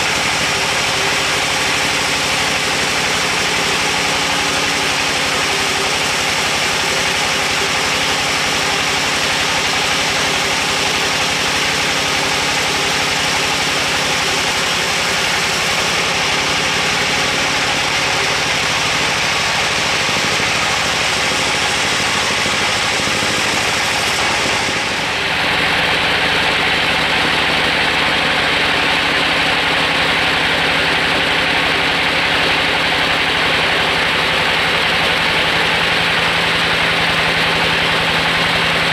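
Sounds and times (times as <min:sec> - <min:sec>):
band saw cutting log: 0:00.0 - 0:38.9
sawmill machine drone: 0:00.0 - 0:38.9.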